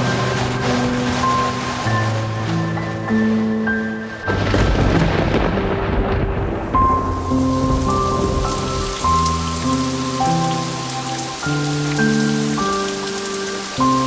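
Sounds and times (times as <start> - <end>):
soft instrumental music: 0.0 - 14.0
steady rain pattering: 0.0 - 14.0.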